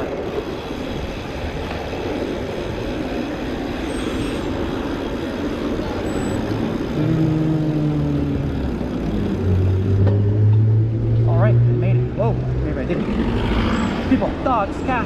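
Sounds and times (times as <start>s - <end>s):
motor vehicle engine hum: 0.0s - 15.0s
road traffic rushing: 0.0s - 15.0s.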